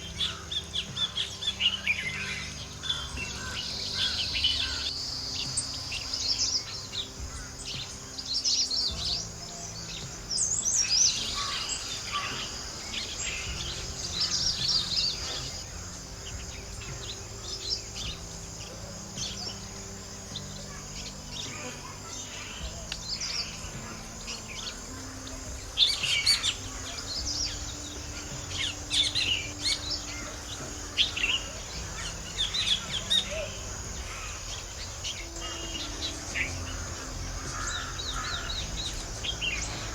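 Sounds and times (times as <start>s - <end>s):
high insect buzz: 0.0s - 39.9s
small birds chirping: 0.0s - 39.9s.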